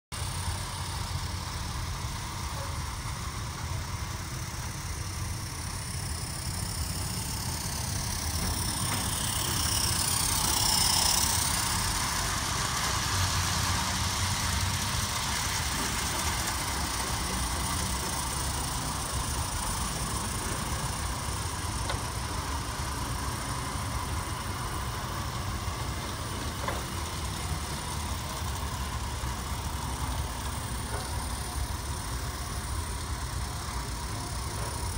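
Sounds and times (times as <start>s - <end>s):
model train wheels over track joints: 0.1s - 34.9s
train passing hiss: 0.2s - 34.9s.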